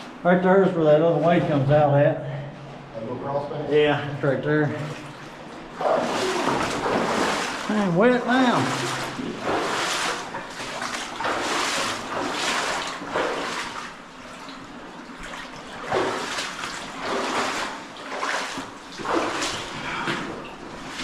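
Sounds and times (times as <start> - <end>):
water splashing and sloshing: 4.1 - 21.0.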